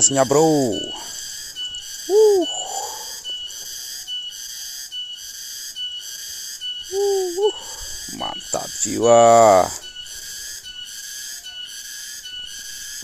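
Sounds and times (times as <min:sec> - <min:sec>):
hooting call: 0:00.0 - 0:13.0
insects pulsing chorus: 0:00.0 - 0:13.0
thin steady whistling tone: 0:00.0 - 0:13.0.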